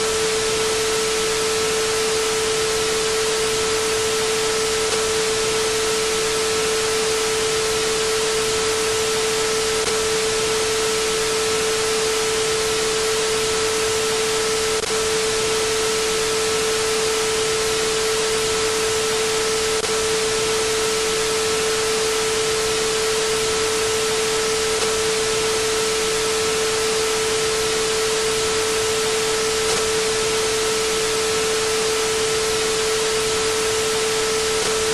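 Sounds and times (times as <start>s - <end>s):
steady sine tone: 0.0s - 34.9s.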